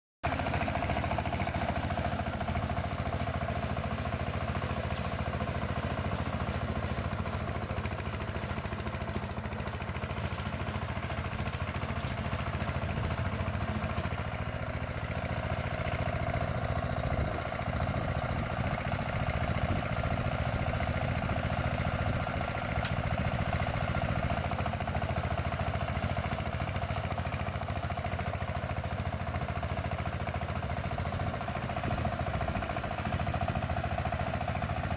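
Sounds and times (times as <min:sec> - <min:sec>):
tiller engine clattering: 0:00.2 - 0:34.9.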